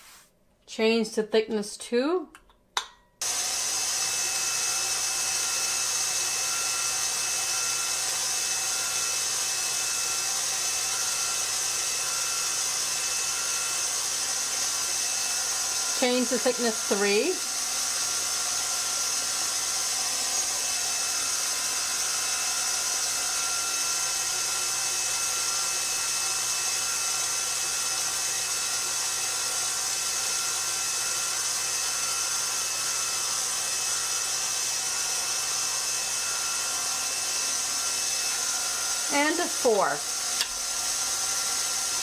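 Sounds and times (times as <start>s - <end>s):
stand mixer motor running: 3.2s - 42.0s.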